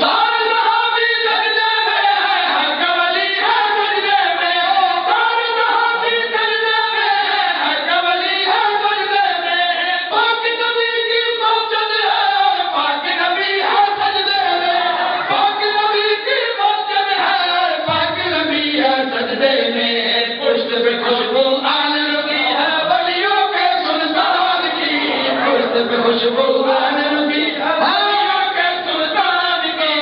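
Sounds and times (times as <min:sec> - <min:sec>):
men chanting into microphone: 0:00.0 - 0:30.0.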